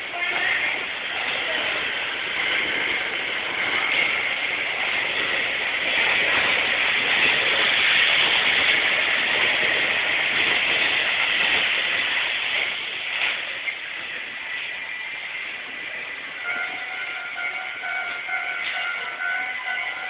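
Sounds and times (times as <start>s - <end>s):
train rushing past: 0.0s - 20.0s.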